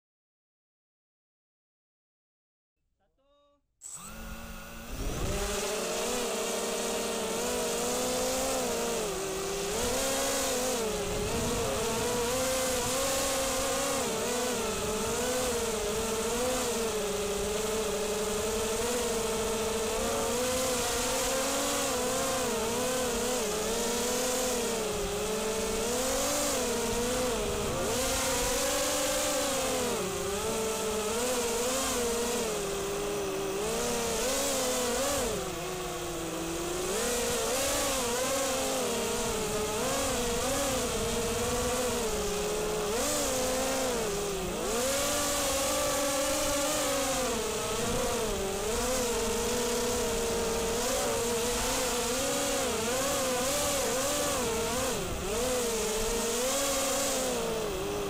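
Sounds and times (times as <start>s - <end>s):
drone motors buzzing whine: 3.8s - 58.0s.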